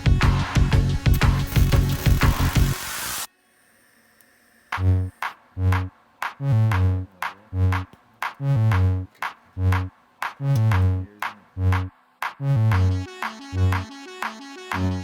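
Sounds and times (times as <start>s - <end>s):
electronic music with drum machine: 0.0s - 3.3s, 4.8s - 15.0s.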